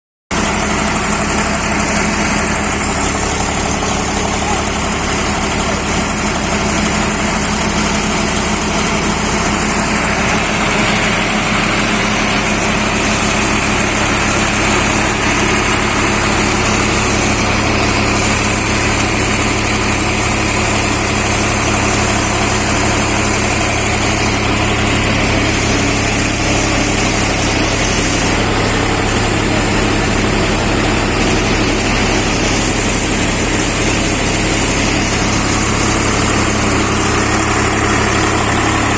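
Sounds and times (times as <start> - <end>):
thresher machine noise: 0.3 - 38.9
tractor diesel engine running: 0.3 - 38.9.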